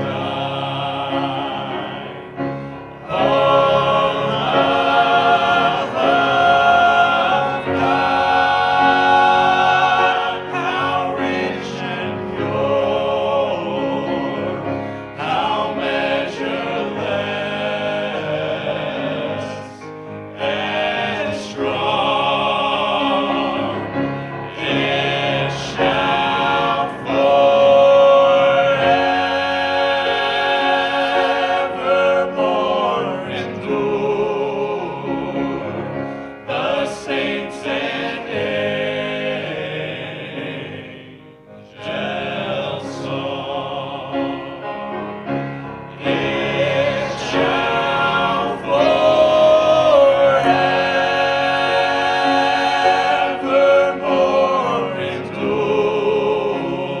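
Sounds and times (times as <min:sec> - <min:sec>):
vocal group singing a hymn: 0:00.0 - 0:57.0.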